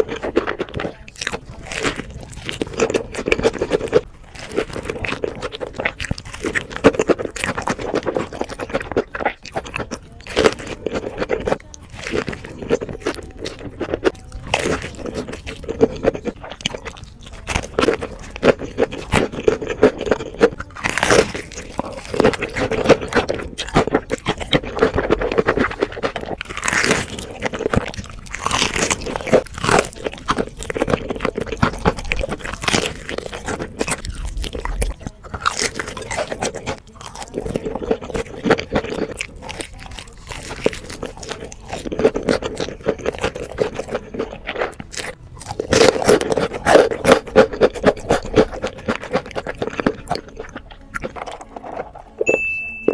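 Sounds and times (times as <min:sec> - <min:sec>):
crunching and chewing fried chicken: 0:00.0 - 0:52.9.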